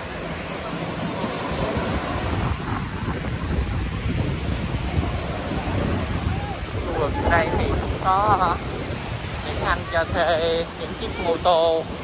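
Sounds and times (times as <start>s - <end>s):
waves washing onto beach: 0.0s - 12.0s
wind buffeting microphone: 0.0s - 12.0s.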